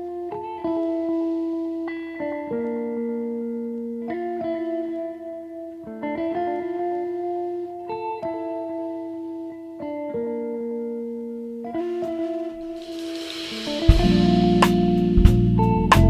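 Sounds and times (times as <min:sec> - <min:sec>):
slow plucked guitar: 0:00.0 - 0:16.0.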